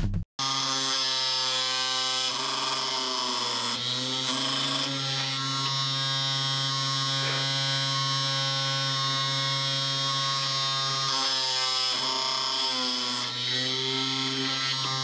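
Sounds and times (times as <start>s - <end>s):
drill bit drilling circuit board: 0.4s - 15.0s
small motor whining: 0.4s - 15.0s.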